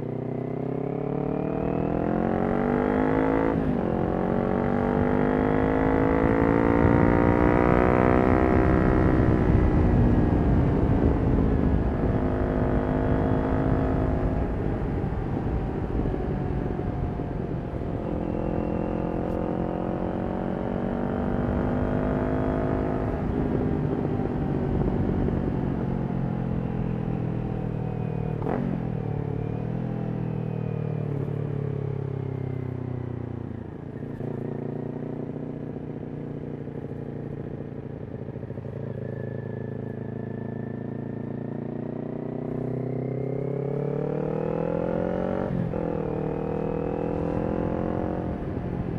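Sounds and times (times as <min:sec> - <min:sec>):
motorcycle engine revving: 0:00.0 - 0:32.0, 0:33.7 - 0:48.9.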